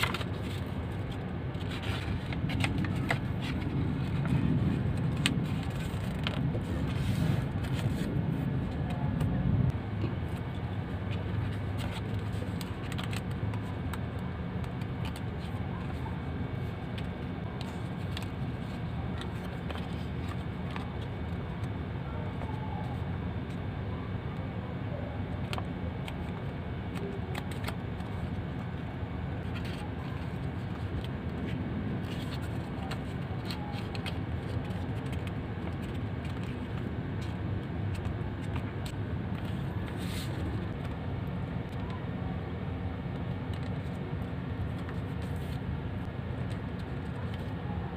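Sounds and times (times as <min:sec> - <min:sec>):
paper crackling and creasing: 0:00.0 - 0:09.0, 0:10.3 - 0:23.6, 0:25.2 - 0:42.0, 0:43.2 - 0:47.9
steady low hum: 0:00.0 - 0:47.9.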